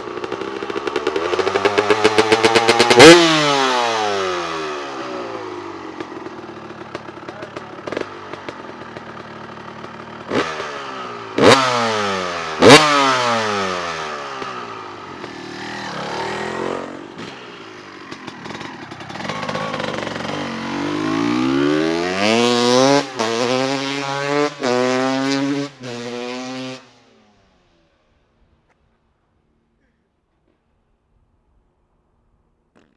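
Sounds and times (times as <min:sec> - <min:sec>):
motorcycle engine revving: 0:00.0 - 0:27.4.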